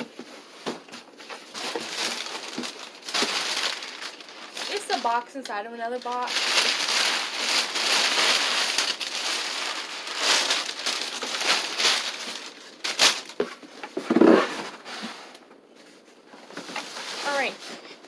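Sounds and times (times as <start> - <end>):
packing paper rustling and crinkling: 0.0 - 18.0.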